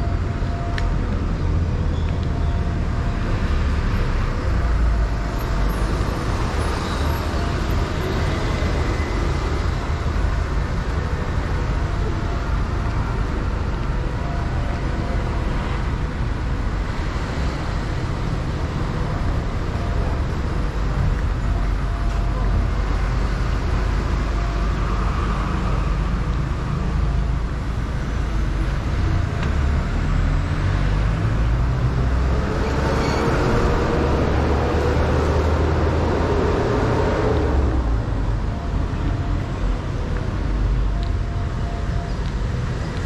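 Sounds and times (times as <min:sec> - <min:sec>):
street traffic rumble: 0:00.0 - 0:43.0.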